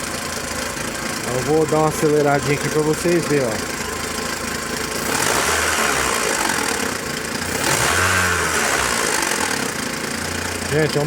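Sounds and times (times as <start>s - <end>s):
engine revving: 1.2s - 11.0s.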